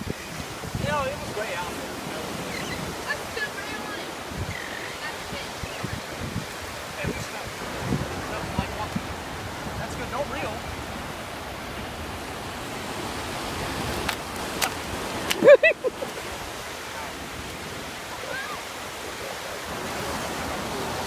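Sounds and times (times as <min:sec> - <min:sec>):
surf breaking on beach: 0:00.0 - 0:21.0
wind on microphone: 0:00.0 - 0:21.0.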